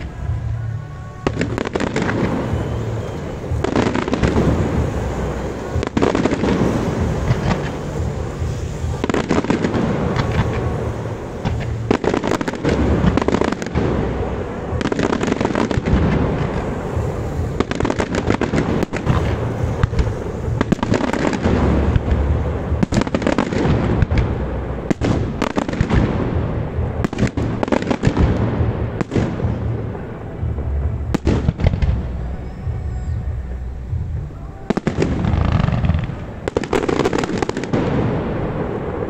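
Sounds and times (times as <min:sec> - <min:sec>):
fireworks bangs and crackles: 0:00.0 - 0:39.0
low rumble: 0:00.0 - 0:39.0.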